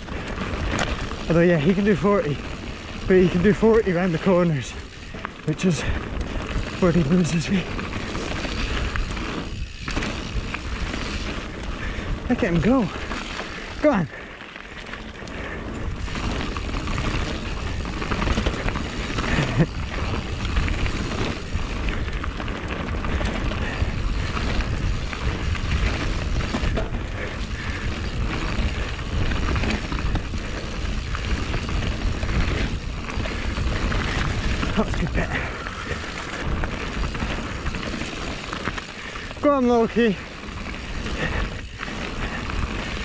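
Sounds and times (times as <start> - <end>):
bike clattering over roots: 0.0 - 43.0
bike tyres rumbling on dirt: 0.0 - 43.0.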